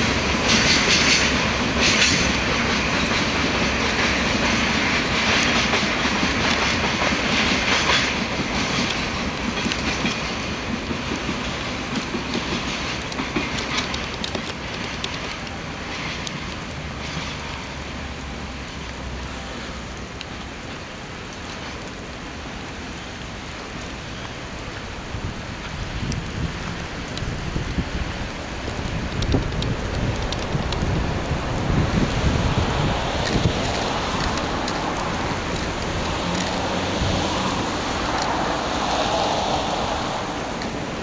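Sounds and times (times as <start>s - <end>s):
wheels clattering over rail joints: 0.0s - 17.9s, 25.6s - 41.0s
freight train wagons rolling: 0.0s - 41.0s.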